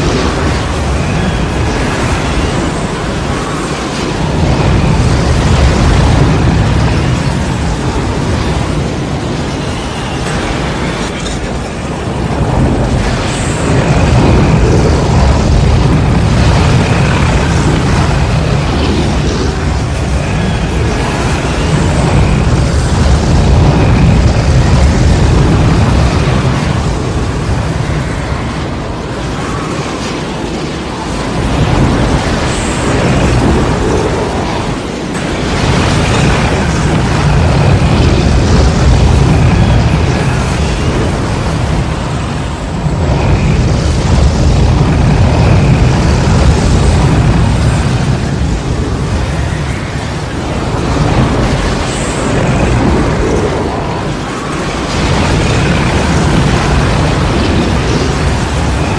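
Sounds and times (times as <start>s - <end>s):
rushing wind: 0.0s - 58.9s.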